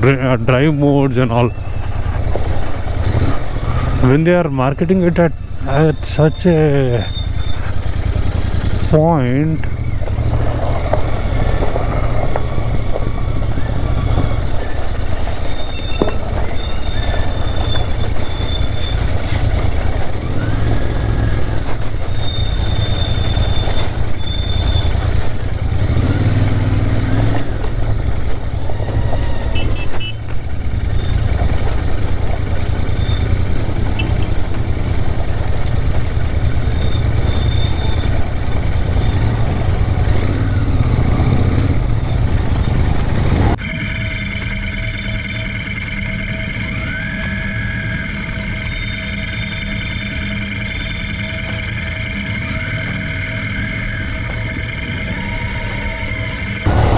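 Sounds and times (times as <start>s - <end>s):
motorcycle engine riding off-road: 0.0s - 56.9s.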